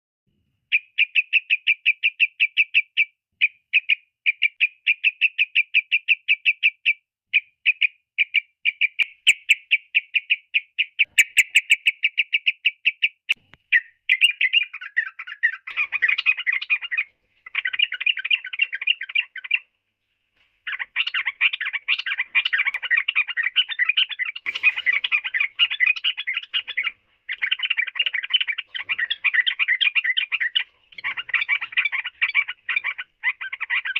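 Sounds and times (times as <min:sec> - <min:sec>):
bulbul singing: 0:00.7 - 0:19.6, 0:20.7 - 0:33.9.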